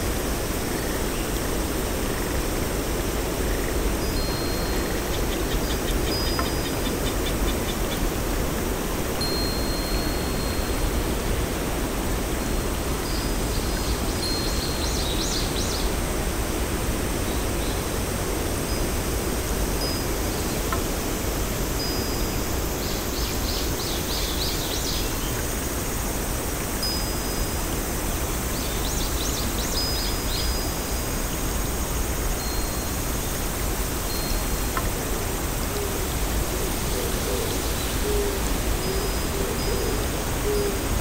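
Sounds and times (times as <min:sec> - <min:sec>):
steady rushing hiss: 0:00.0 - 0:41.0.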